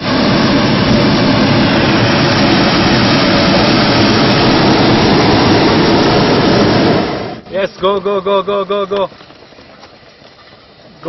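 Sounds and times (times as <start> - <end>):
propane burner blast: 0.0 - 9.1.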